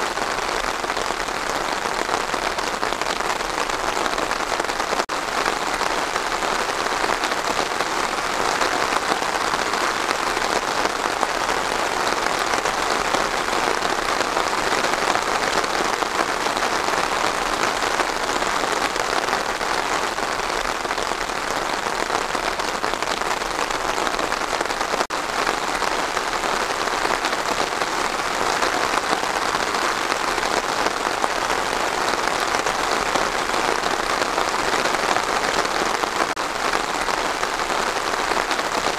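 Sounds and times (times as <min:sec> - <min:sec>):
rain falling on trees: 0:00.0 - 0:38.9.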